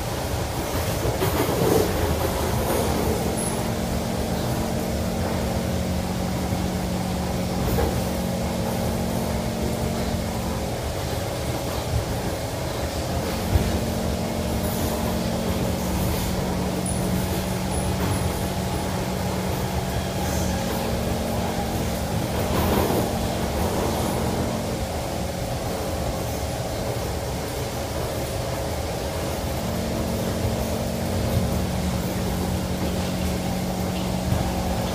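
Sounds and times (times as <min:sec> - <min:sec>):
motor hum: 0:00.0 - 0:34.9
train wheels rumbling: 0:00.0 - 0:34.9.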